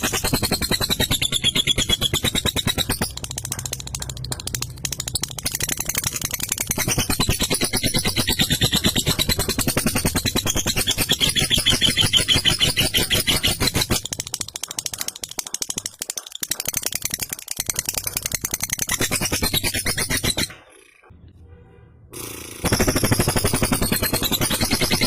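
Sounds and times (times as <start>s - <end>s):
lovebird rattling chatter: 0.0s - 21.0s, 22.6s - 25.0s.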